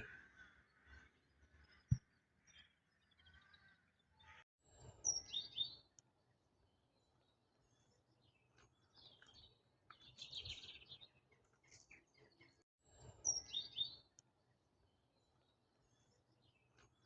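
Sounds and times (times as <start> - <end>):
birds calling faintly: 0.0 - 17.0.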